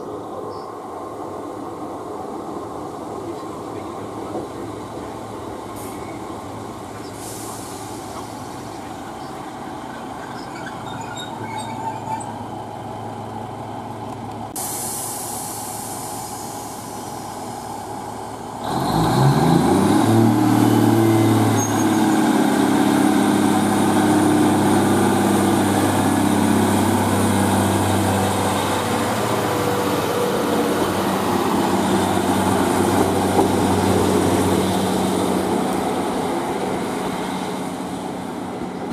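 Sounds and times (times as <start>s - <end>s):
train diesel engine: 0.0s - 38.9s.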